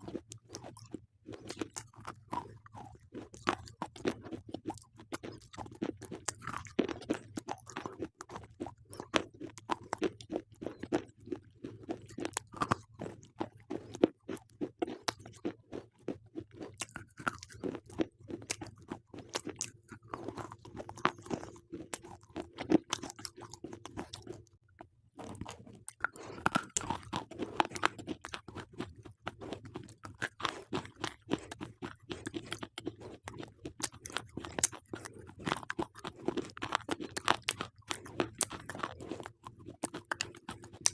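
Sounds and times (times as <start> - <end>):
crunching and chewing: 0.0 - 40.9.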